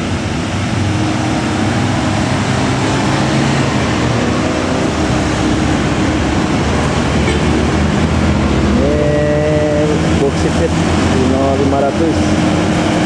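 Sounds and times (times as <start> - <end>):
cars and motorcycles passing: 0.0 - 13.0
truck diesel engine running: 0.0 - 13.0.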